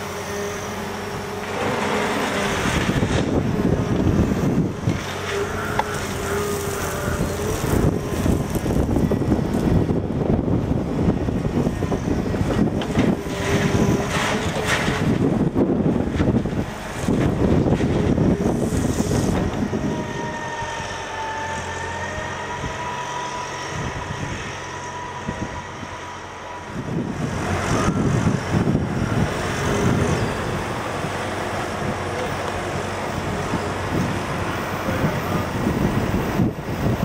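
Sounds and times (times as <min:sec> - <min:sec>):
diesel engine running with whine: 0:00.0 - 0:37.0
wind buffeting on microphone: 0:02.4 - 0:21.2, 0:22.0 - 0:37.0.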